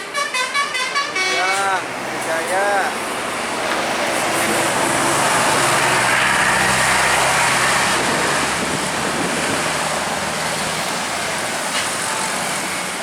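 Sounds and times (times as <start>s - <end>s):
heavy vehicle engine and tyres: 0.0s - 13.0s.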